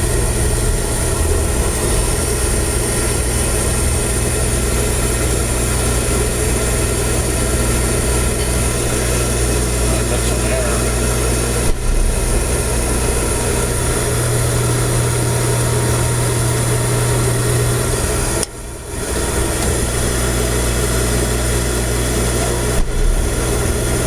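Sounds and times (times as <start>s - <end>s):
oil burner humming: 0.0s - 24.0s.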